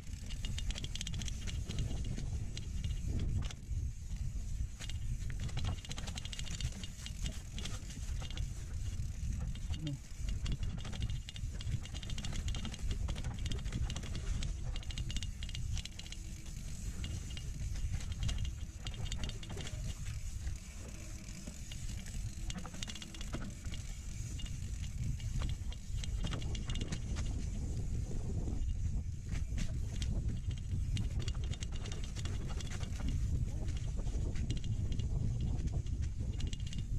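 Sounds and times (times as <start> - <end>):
bike rattling over bumps: 0.0 - 36.9
wind rumble on microphone: 0.0 - 36.9.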